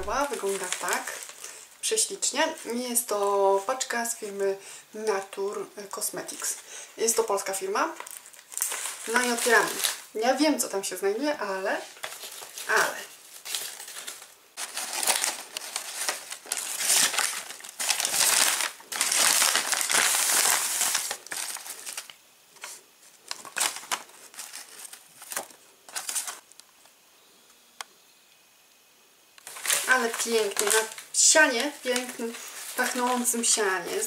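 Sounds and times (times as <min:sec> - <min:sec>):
wrapping paper crinkling: 0:00.0 - 0:04.4, 0:06.2 - 0:10.2, 0:11.6 - 0:26.6, 0:29.4 - 0:34.0.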